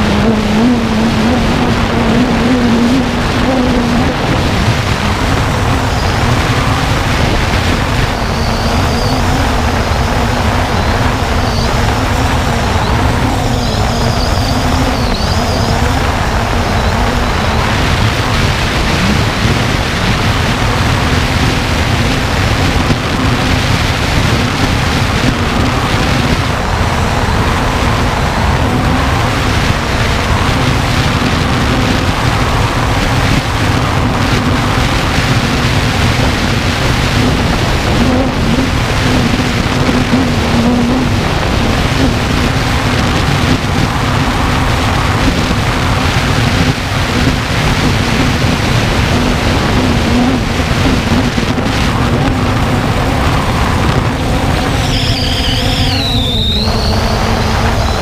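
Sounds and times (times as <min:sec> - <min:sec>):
drone propellers humming: 0:00.0 - 0:58.0
high whine bending in pitch: 0:00.0 - 0:58.0
wind rumble on microphone: 0:00.0 - 0:58.0.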